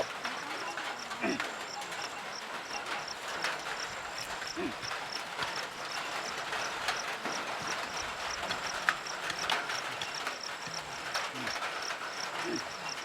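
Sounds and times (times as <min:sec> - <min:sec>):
hooves clopping on soil: 0:00.0 - 0:13.0
insect chirping: 0:00.0 - 0:13.0.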